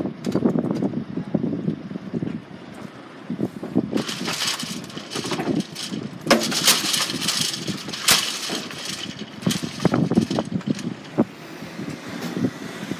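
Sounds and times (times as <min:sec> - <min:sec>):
road traffic engines: 0:00.0 - 0:12.9
wind buffeting microphone: 0:00.0 - 0:12.9.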